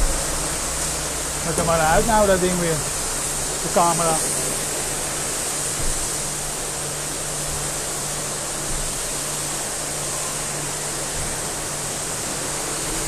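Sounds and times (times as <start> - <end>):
dog wash machine rushing: 0.0 - 13.0.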